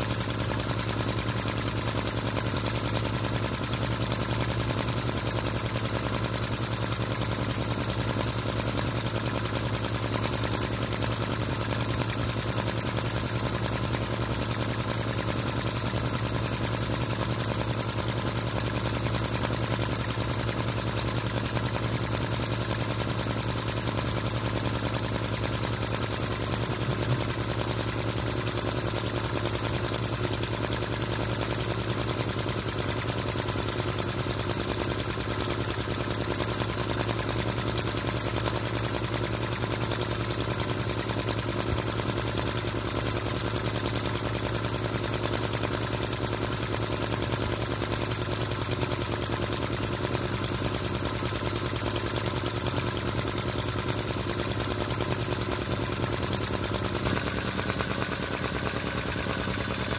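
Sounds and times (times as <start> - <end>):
small engine rapid popping: 0.0 - 59.9.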